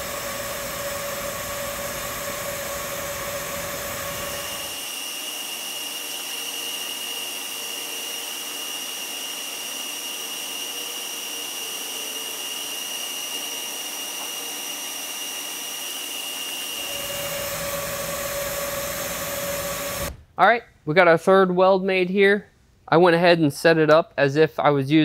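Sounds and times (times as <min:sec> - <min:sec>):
welding arc hissing and whining: 0:00.0 - 0:20.2.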